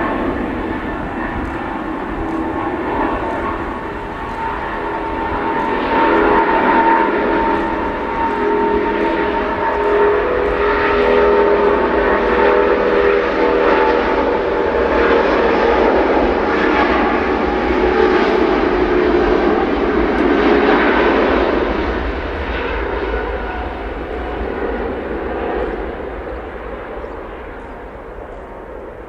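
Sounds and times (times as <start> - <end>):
jet engine buzzing drone: 0.0 - 29.0.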